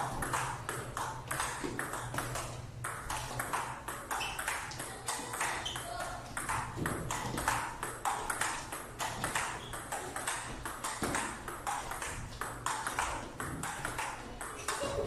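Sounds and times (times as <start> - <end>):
table tennis ball clicking: 0.0 - 15.0.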